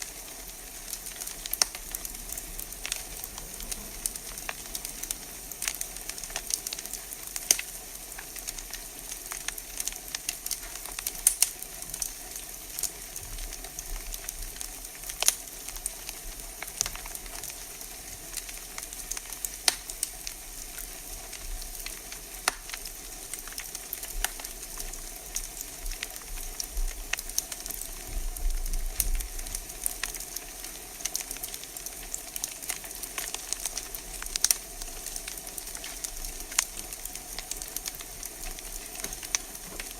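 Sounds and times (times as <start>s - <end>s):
fire hiss: 0.0s - 39.9s
wood fire crackling: 0.0s - 39.9s.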